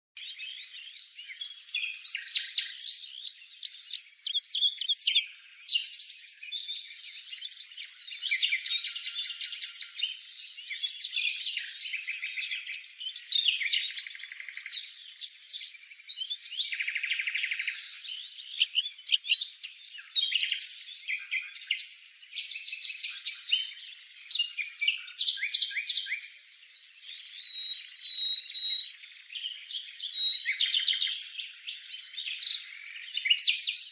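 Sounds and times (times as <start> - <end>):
bird chirping and trilling: 0.2 - 33.9.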